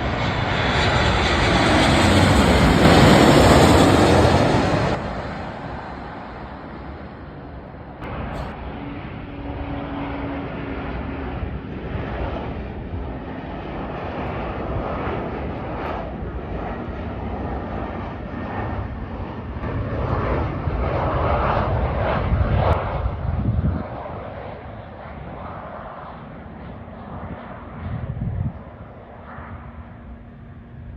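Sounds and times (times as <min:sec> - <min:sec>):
jet airliner roaring overhead: 0:00.0 - 0:30.9.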